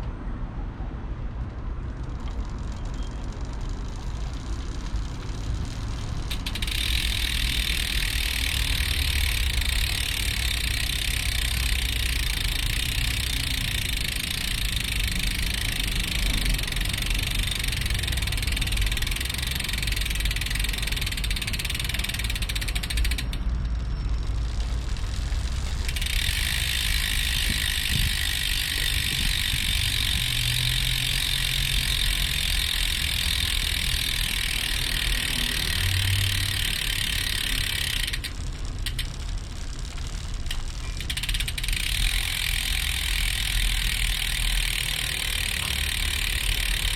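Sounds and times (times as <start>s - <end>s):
bicycle freehub buzzing: 1.3s - 46.9s.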